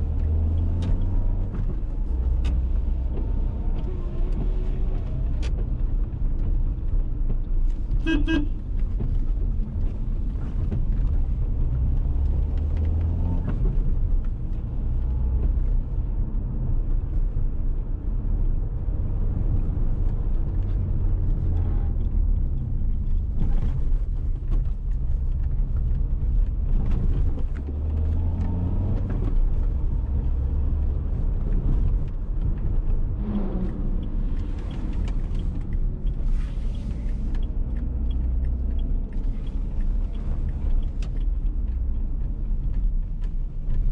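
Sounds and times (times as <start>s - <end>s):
car engine and tyres rumbling: 0.0s - 43.9s.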